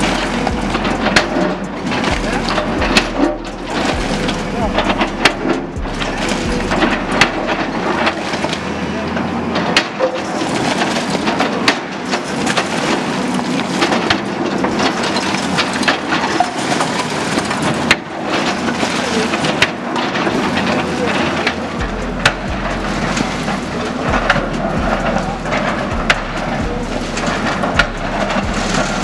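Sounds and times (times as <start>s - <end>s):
concrete cracking and crunching: 0.0s - 29.0s.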